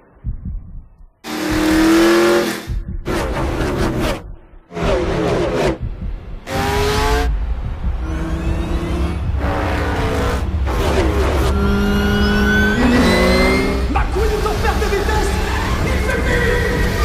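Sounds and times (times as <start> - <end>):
deep engine rumble: 0.0 - 17.0
race car engines at high revs: 1.2 - 5.8, 6.4 - 17.0.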